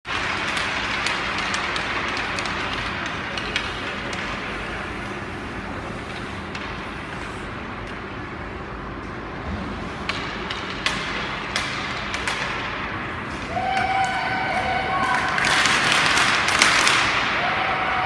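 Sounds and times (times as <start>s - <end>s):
hockey sticks and puck clicking: 0.1s - 8.3s, 10.0s - 18.0s.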